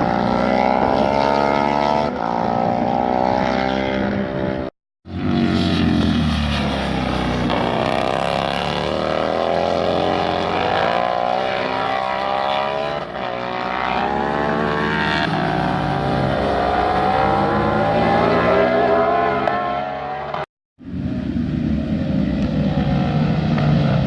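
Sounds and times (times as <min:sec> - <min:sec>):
racing motorcycle engines revving: 0:00.0 - 0:24.0.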